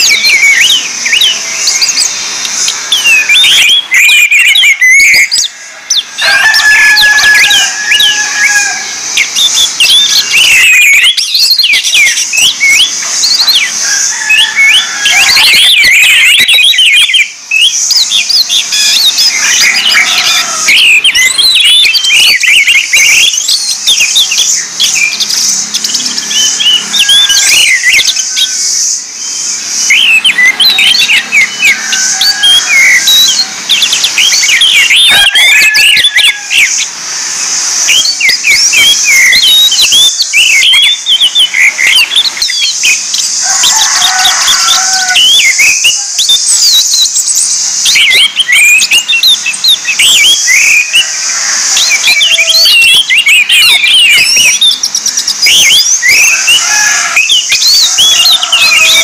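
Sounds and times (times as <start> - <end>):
steady high hiss: 0.0 - 53.2
thrushes singing: 0.0 - 59.0.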